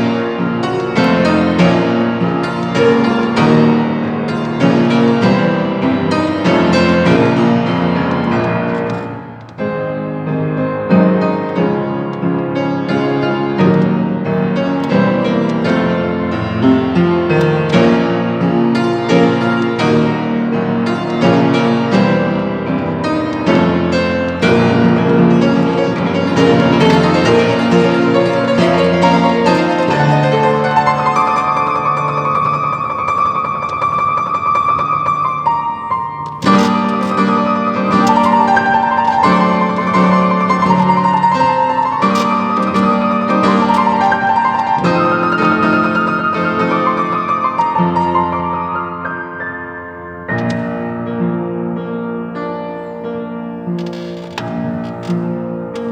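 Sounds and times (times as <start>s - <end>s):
piano playing dense chords: 0.0s - 55.9s.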